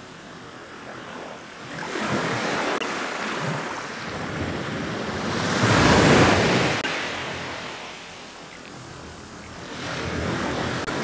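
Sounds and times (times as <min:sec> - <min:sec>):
ocean waves breaking on shore: 0:00.0 - 0:11.0.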